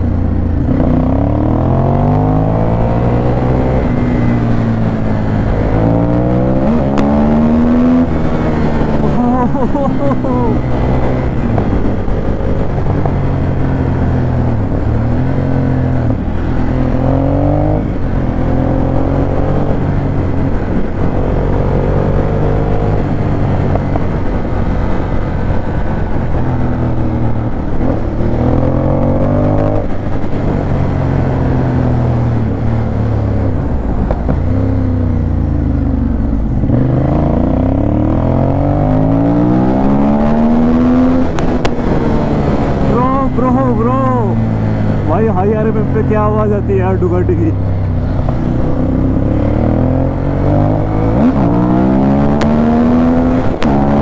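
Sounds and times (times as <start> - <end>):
motorcycle engine accelerating hard: 0.0 - 54.0.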